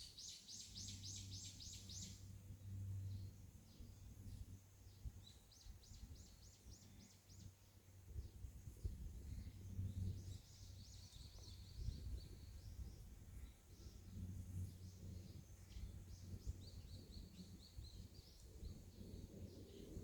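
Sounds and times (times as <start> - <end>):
small songbird singing: 0.0 - 20.0.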